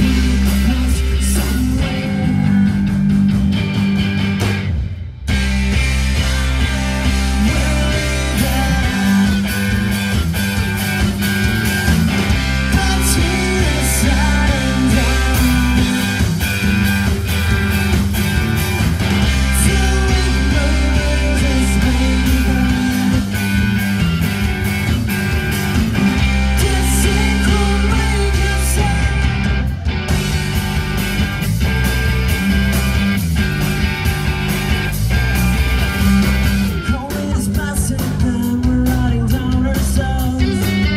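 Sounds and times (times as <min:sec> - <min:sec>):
drum kit: 0:00.0 - 0:40.9
electric guitars: 0:00.0 - 0:40.9
live rock band playing: 0:00.0 - 0:40.9.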